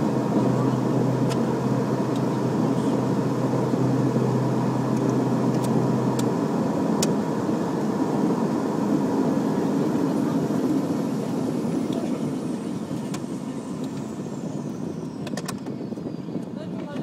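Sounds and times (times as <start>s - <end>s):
low hum: 0.0s - 16.6s
turboprop engines droning: 0.0s - 17.0s.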